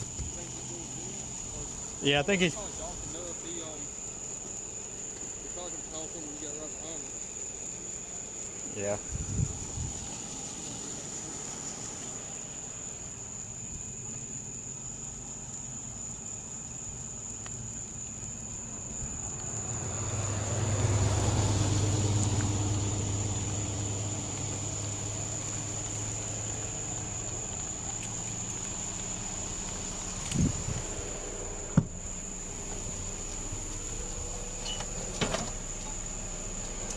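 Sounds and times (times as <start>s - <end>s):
vehicle passing on road: 0.0s - 15.4s, 17.0s - 36.9s
high-pitched insect drone: 0.0s - 36.9s.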